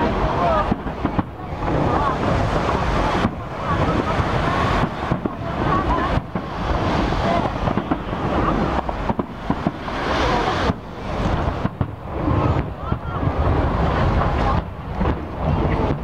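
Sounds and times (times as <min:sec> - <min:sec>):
firework booms and crackle: 0:00.0 - 0:16.0
wind rumble on microphone: 0:00.0 - 0:16.0.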